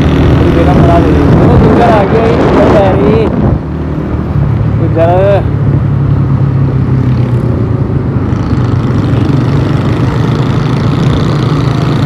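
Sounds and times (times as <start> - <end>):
motorcycle engine humming: 0.0 - 12.0
road noise: 0.0 - 12.0
wind noise: 0.0 - 12.0.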